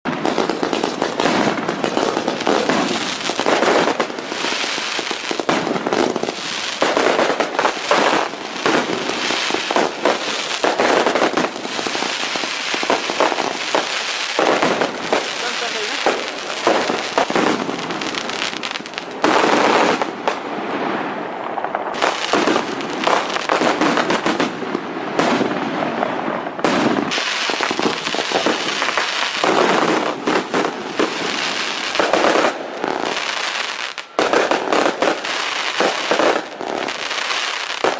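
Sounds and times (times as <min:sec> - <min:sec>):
fireworks cracking and banging: 0:00.0 - 0:37.9.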